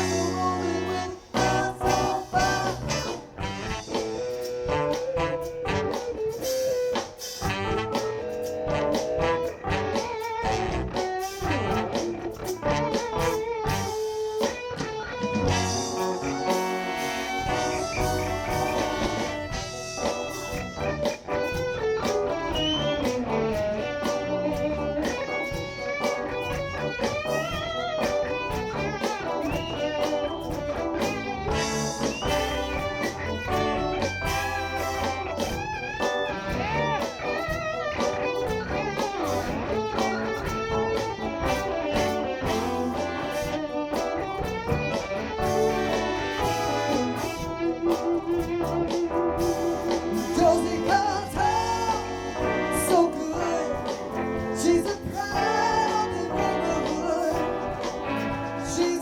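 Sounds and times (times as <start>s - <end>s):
electric guitar lead: 0.0s - 59.0s
live band playing: 0.0s - 59.0s.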